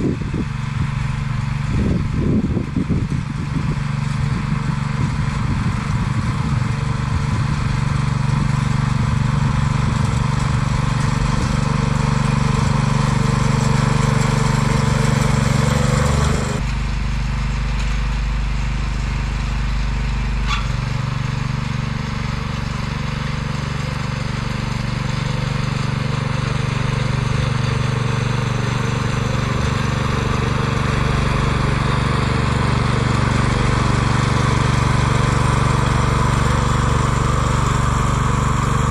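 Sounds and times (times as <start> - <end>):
cultivator petrol engine running: 0.0 - 38.9.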